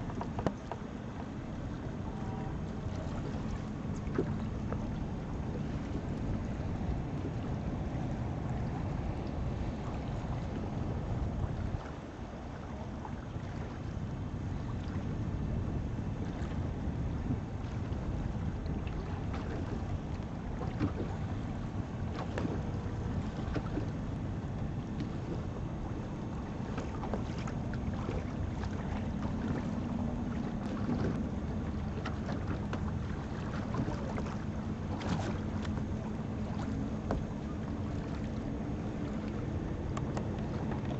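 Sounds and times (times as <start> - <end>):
faint steady hum: 0.0 - 40.9
water splashing around boat: 0.0 - 40.9
wind buffeting microphone: 1.4 - 40.9.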